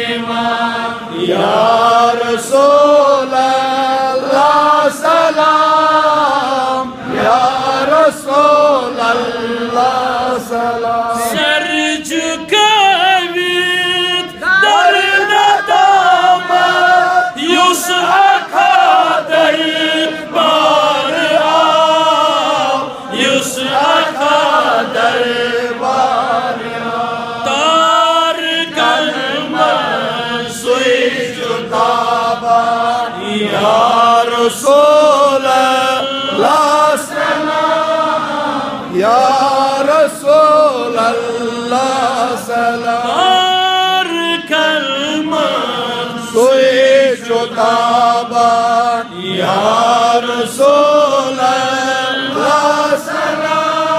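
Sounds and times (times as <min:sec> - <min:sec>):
man chanting into a microphone: 0:00.0 - 0:26.5, 0:27.3 - 0:37.2, 0:38.9 - 0:53.1.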